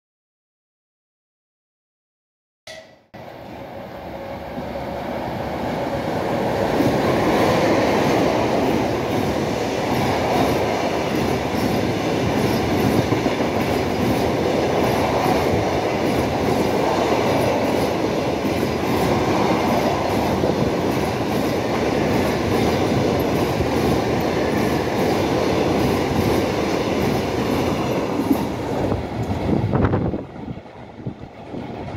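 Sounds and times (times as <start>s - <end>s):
electric locomotive passing: 3.2s - 31.9s
rumble of wheels on rails: 3.2s - 31.9s.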